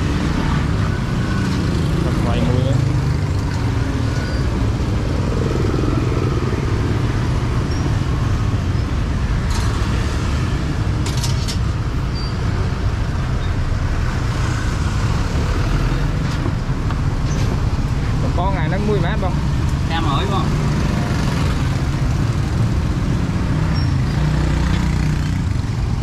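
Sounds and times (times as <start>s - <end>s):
motorbikes going by: 0.0s - 11.0s, 14.0s - 26.0s
street traffic rumble: 0.0s - 26.0s.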